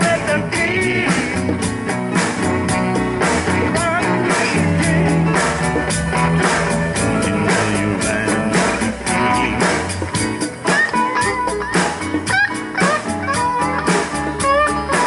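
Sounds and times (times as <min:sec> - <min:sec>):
congas: 0:00.0 - 0:15.0
drum kit: 0:00.0 - 0:15.0
electric guitar: 0:00.0 - 0:15.0.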